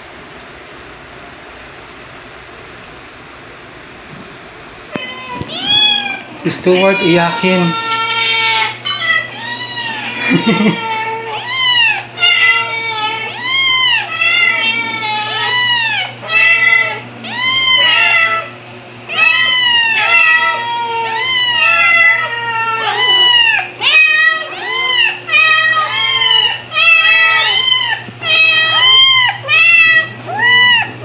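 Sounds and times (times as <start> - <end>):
kitten meowing: 4.9 - 18.5, 19.1 - 31.0.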